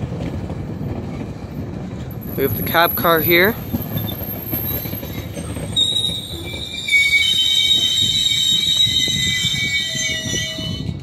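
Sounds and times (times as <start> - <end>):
train coaches rumbling past: 0.0 - 11.0
train wheels and brakes squealing: 2.1 - 11.0.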